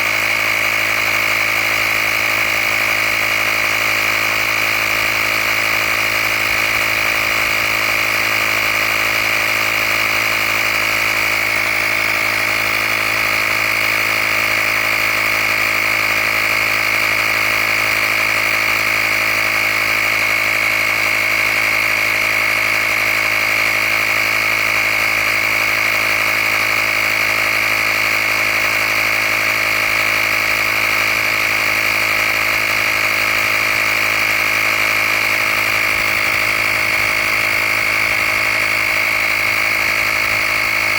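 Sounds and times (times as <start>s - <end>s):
air compressor whining hum: 0.0s - 40.9s.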